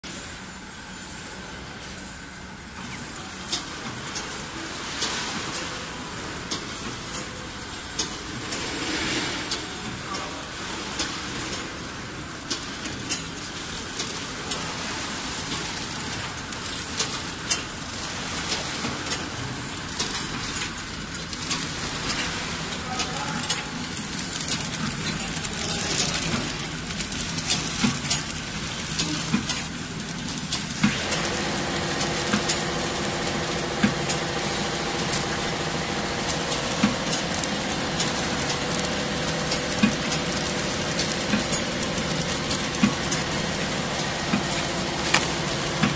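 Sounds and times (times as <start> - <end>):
packing machine running: 0.1 - 45.9
machine clicks: 6.4 - 14.8, 15.4 - 45.9.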